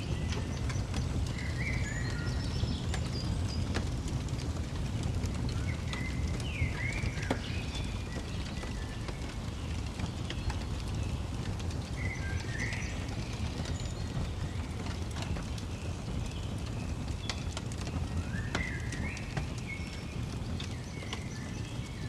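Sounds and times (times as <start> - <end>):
fire crackling: 0.0 - 22.0
songbirds chirping: 0.0 - 22.0.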